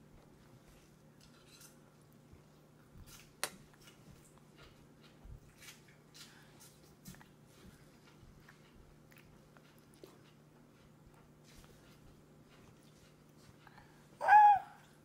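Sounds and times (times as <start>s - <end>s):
toddler chewing food: 0.2s - 15.0s.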